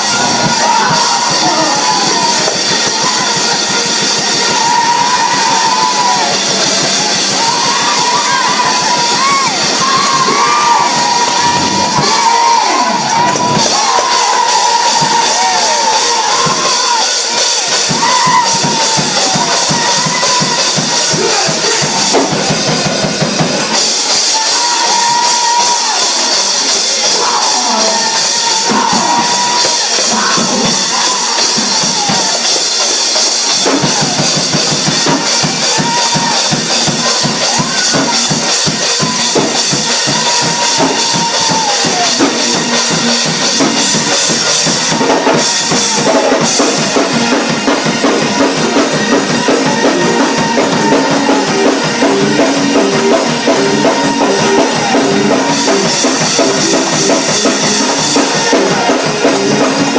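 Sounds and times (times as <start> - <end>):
fast church music with drum kit: 0.0 - 59.9.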